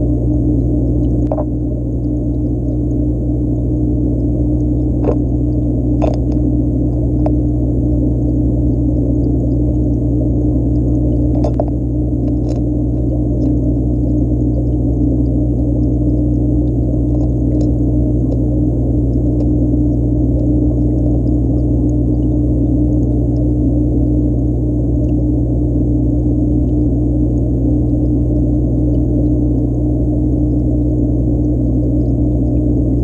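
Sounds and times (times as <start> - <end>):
muffled low droning hum: 0.0 - 33.0.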